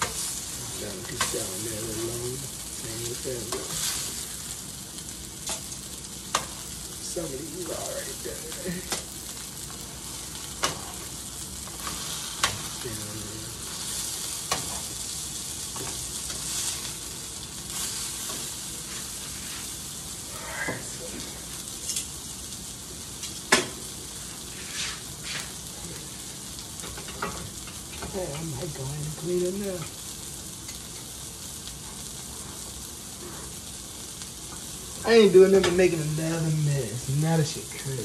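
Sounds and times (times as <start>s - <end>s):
sausages sizzling in frying pan: 0.0s - 38.0s.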